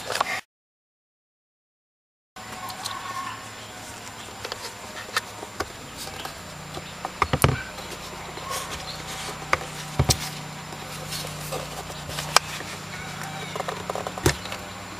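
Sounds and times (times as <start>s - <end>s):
low steady hum: 2.4s - 14.9s.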